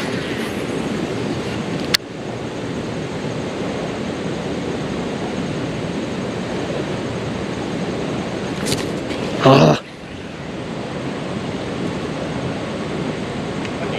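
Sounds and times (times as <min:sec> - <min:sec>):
outdoor rushing noise: 0:00.0 - 0:13.9.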